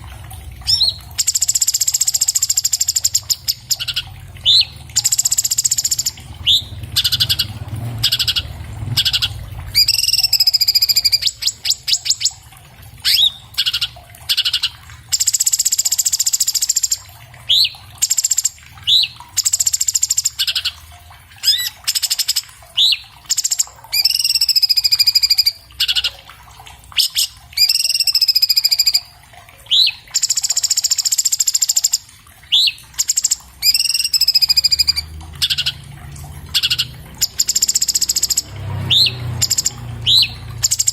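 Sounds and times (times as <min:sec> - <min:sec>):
bird singing fast varied song: 0:00.7 - 0:12.4, 0:13.0 - 0:20.8, 0:21.4 - 0:26.2, 0:27.0 - 0:29.1, 0:29.7 - 0:35.8, 0:36.5 - 0:40.9.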